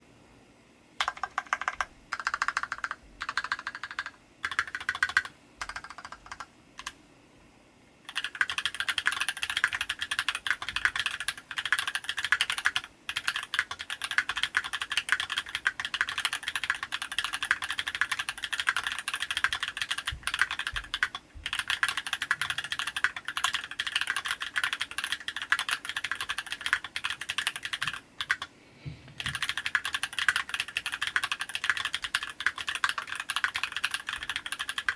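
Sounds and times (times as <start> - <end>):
typing on mechanical keyboard: 1.0 - 7.0, 8.1 - 28.5, 29.2 - 34.9.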